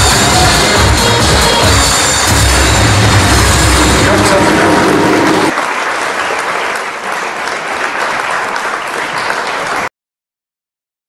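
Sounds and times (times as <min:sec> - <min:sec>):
crowd applauding: 0:00.0 - 0:09.9.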